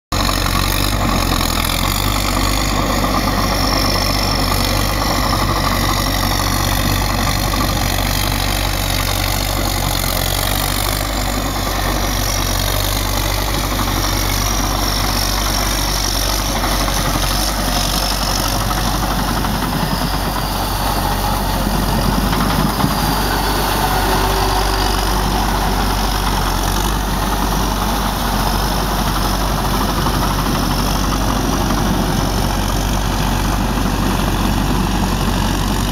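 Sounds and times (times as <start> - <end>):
tractor engine running: 0.1 - 35.9.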